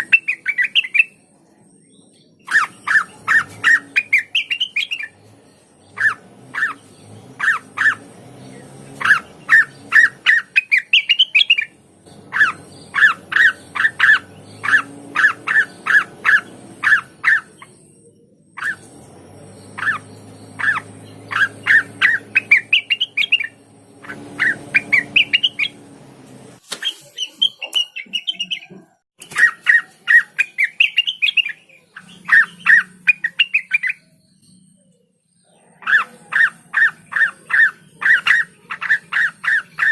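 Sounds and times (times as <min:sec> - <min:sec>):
bird singing sharp chirps: 0:00.0 - 0:26.0, 0:26.6 - 0:39.9.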